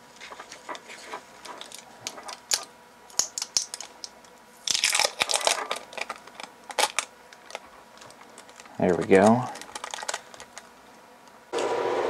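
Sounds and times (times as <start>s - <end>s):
plastic crackling: 0.2s - 10.8s.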